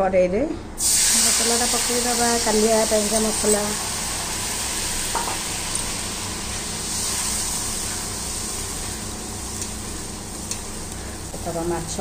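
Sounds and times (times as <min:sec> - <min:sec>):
paste sizzling in hot oil: 0:00.8 - 0:12.0.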